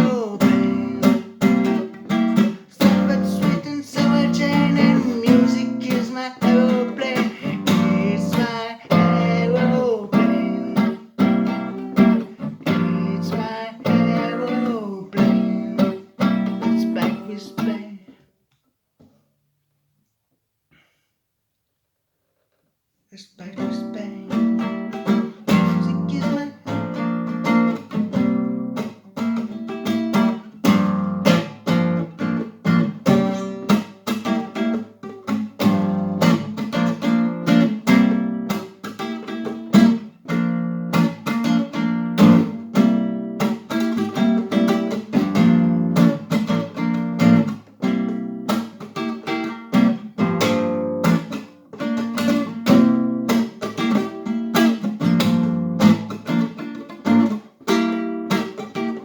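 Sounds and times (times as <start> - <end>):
acoustic guitar strumming: 0.0 - 18.1, 23.5 - 59.0.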